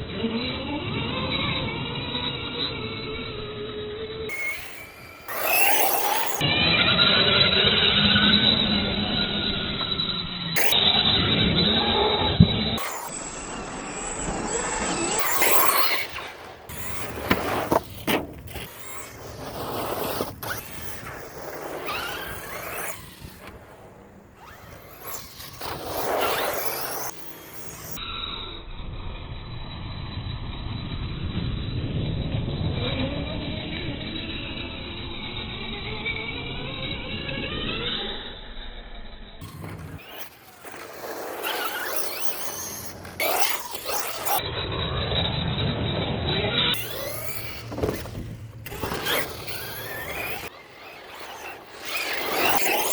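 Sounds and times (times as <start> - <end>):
electric motor whine: 0.0 - 28.1, 30.9 - 52.9.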